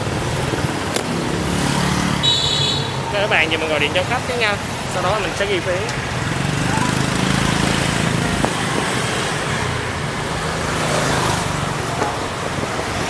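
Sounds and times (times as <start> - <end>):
motorbike engines running: 0.0 - 13.0
road noise: 0.0 - 13.0.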